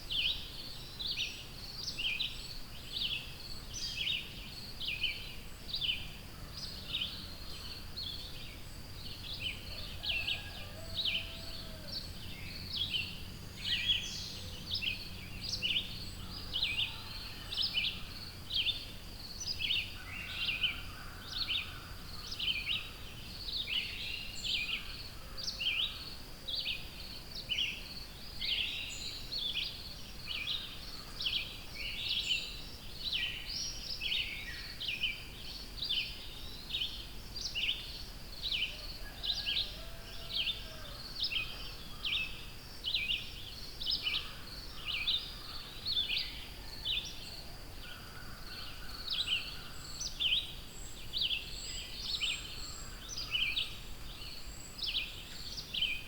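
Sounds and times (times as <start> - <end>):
songbirds chirping and singing: 0.2 - 56.0.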